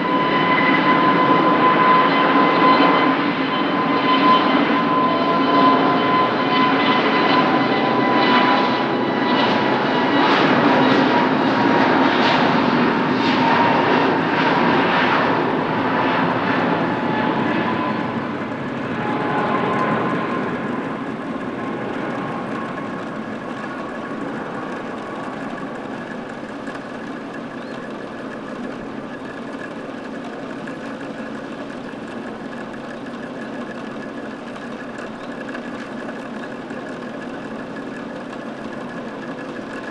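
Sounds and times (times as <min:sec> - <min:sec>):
jet roar with high whine: 0:00.0 - 0:39.9.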